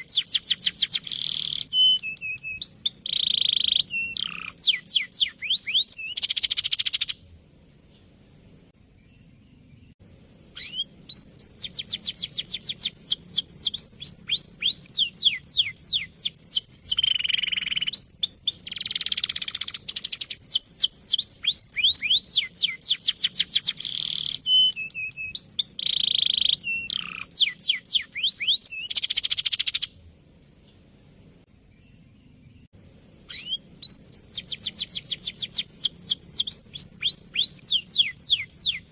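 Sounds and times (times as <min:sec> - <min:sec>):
canary singing trills: 0:00.0 - 0:08.1, 0:08.9 - 0:30.9, 0:31.7 - 0:38.9.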